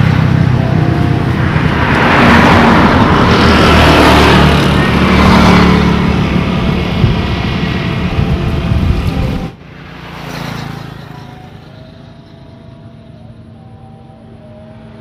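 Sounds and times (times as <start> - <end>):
distant vehicle passing: 0.0 - 15.0
steady traffic hum: 0.0 - 15.0
vehicle passing close by: 0.0 - 15.0.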